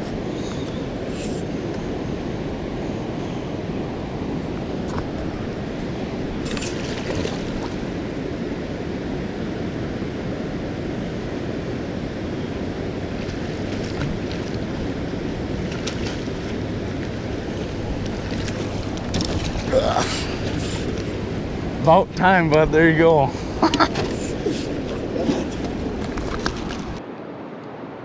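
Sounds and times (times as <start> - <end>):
wind buffeting microphone: 0.0 - 27.0
river water rushing: 0.0 - 28.0.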